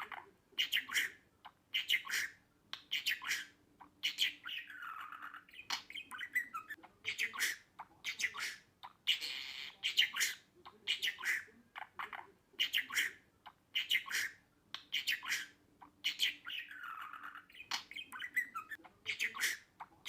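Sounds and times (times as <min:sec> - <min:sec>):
budgerigar chirping and squawking: 0:00.0 - 0:20.0.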